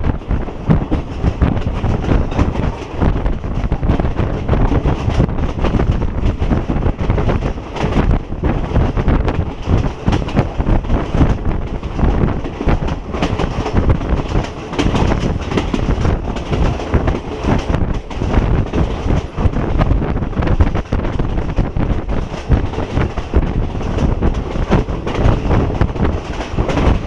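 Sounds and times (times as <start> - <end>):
train wheels clattering on rails: 0.0 - 27.0
wind buffeting microphone: 0.0 - 27.0.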